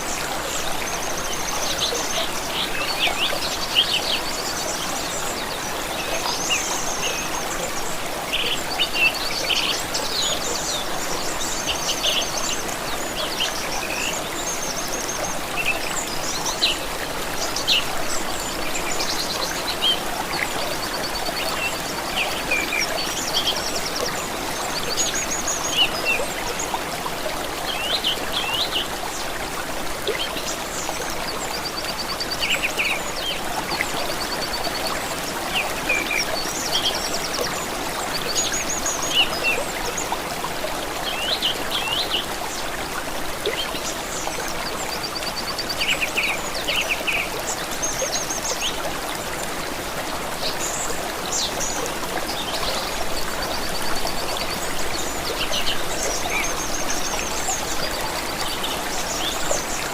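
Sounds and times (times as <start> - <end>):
stream running water: 0.0 - 59.9.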